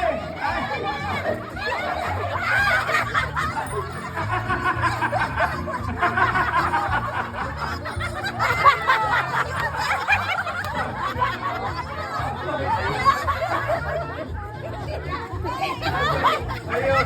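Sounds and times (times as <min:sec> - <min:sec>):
background music with bass line: 0:00.0 - 0:17.0
people laughing and calling out: 0:00.0 - 0:17.0.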